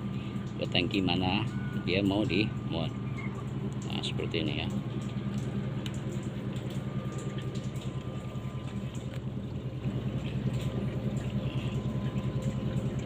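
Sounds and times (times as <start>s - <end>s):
engine idling: 0.0s - 13.0s
faint steady whine: 0.0s - 13.0s.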